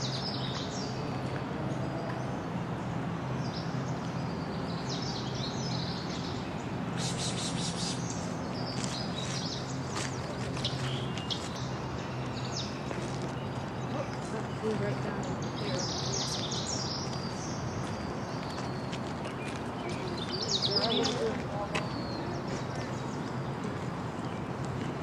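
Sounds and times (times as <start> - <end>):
songbirds singing and chirping: 0.0 - 25.0.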